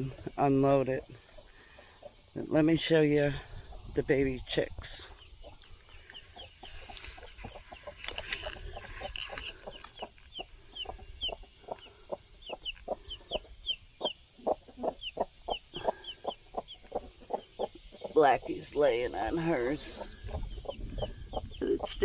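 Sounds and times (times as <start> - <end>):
chick peeping: 0.0 - 22.0
hen clucking: 0.0 - 22.0.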